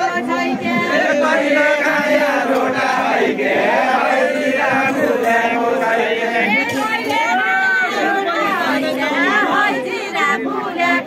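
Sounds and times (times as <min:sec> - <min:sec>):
group chanting in chorus: 0:00.0 - 0:07.2, 0:07.9 - 0:11.0.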